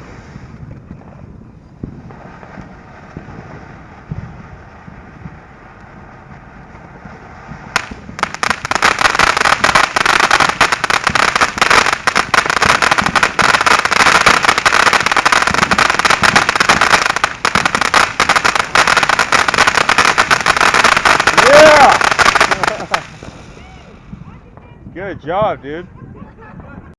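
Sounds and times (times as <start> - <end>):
fountain firework crackling: 0.0 - 25.0.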